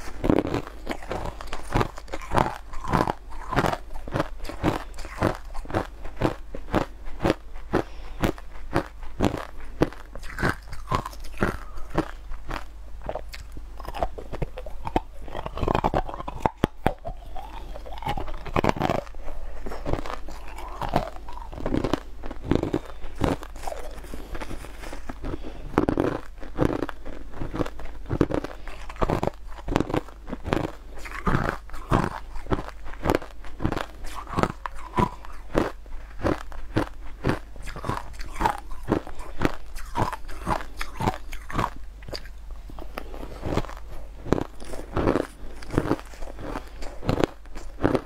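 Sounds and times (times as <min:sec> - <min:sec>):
crunching and chewing ice: 0:00.0 - 0:48.0.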